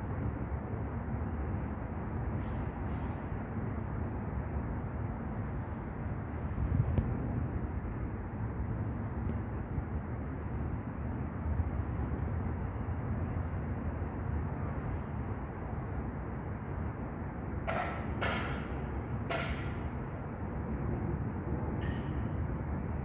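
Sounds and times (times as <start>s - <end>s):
outdoor background rumble: 0.0s - 23.0s.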